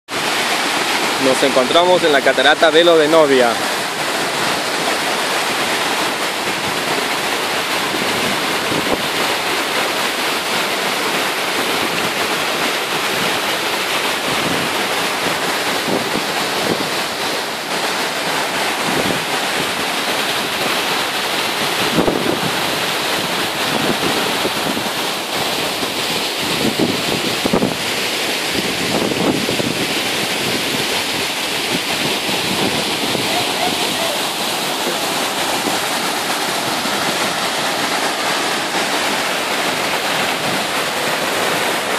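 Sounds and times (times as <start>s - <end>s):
waterfall rushing: 0.1s - 41.9s.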